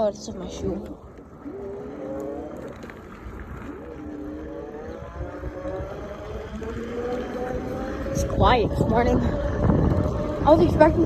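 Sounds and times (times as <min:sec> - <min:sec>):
wind rumbling on microphone: 0:00.0 - 0:11.0
wavering gliding tone: 0:00.4 - 0:11.0.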